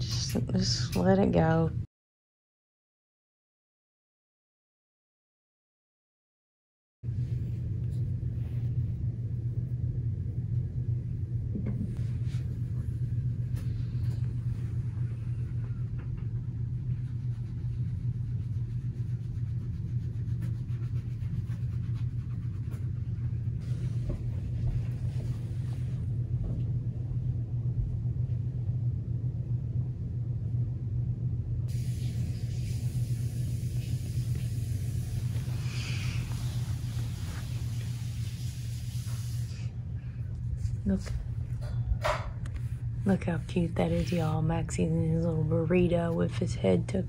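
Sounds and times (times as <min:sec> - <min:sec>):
low rumbling hum: 0:00.0 - 0:01.9, 0:07.0 - 0:47.0.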